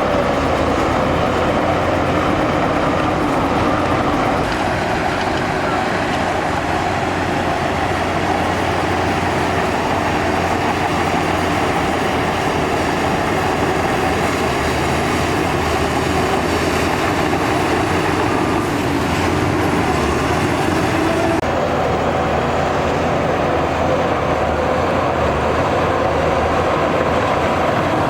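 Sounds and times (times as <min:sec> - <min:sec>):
diesel machinery engine rumbling: 0:00.0 - 0:28.0.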